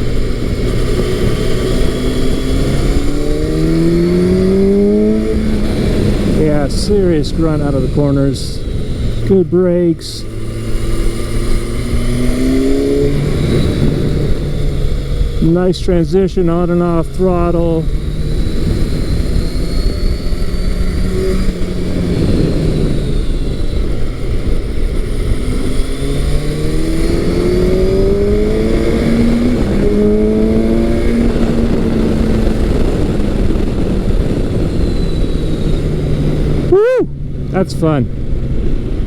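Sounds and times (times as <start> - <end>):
motorcycle engine accelerating: 0.0 - 39.0
wind and road noise: 0.0 - 39.0.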